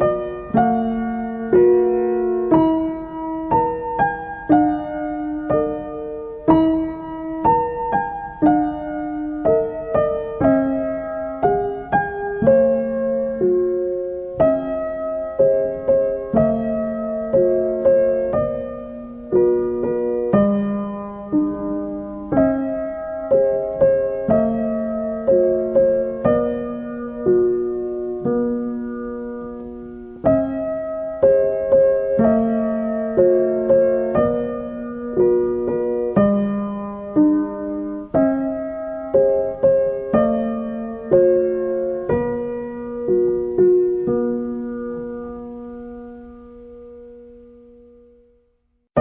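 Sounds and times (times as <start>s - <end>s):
gentle piano melody: 0.0s - 49.0s.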